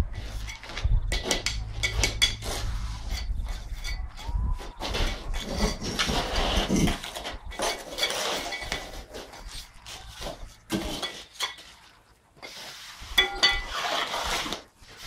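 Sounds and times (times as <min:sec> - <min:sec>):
metal tools clinking and scraping: 0:00.2 - 0:14.3.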